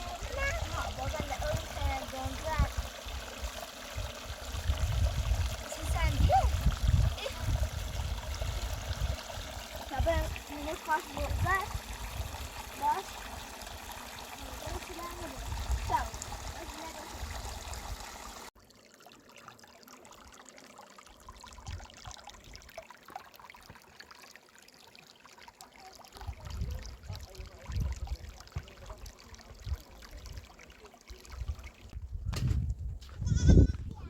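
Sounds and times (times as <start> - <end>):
running water trickling: 0.0 - 32.0.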